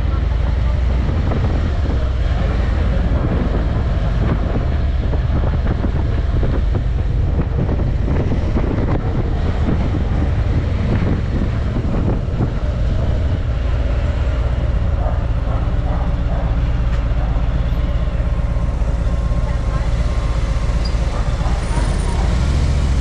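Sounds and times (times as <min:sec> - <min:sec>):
car engine and road noise: 0:00.0 - 0:23.0
wind noise on microphone: 0:00.0 - 0:23.0.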